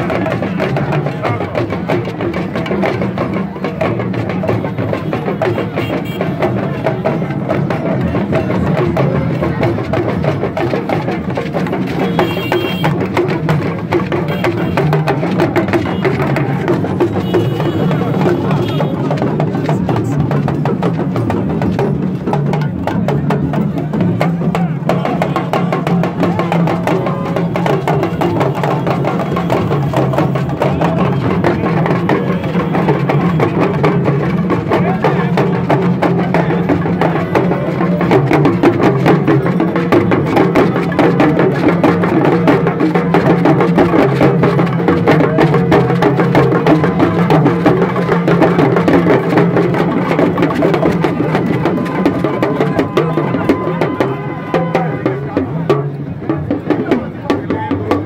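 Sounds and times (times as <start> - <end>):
drum-led music: 0.0 - 58.0.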